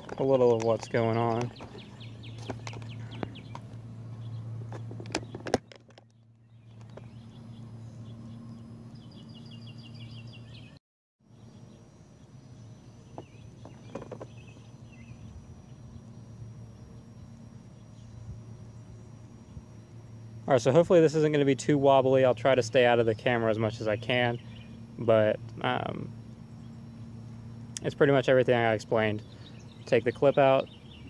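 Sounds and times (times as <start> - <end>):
birds chirping: 0.0 - 31.0
steady low hum: 0.0 - 31.0.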